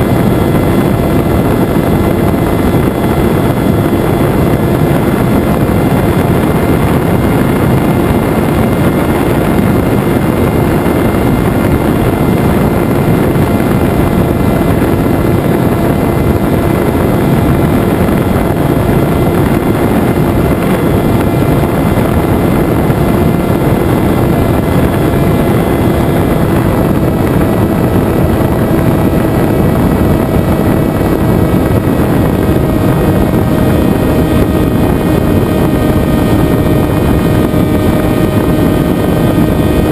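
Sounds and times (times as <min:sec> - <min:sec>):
electric motor and propeller whine: 0:00.0 - 0:39.9
rushing air noise: 0:00.0 - 0:39.9.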